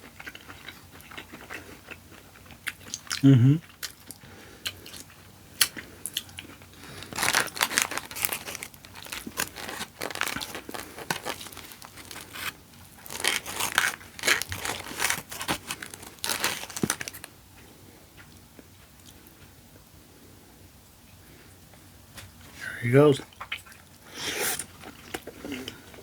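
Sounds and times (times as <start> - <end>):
food crinkling and crunching: 0.0 - 19.4, 23.2 - 26.0.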